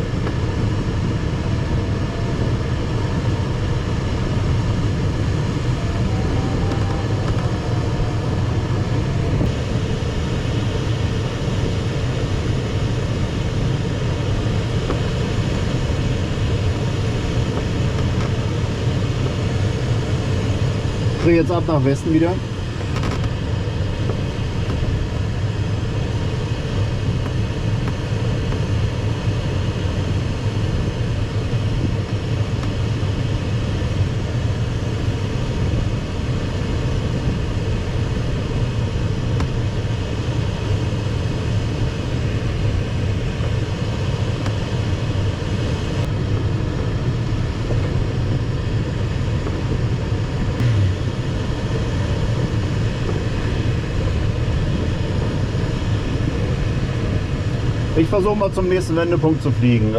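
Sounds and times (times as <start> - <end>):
airflow around glider cockpit: 0.0 - 59.9.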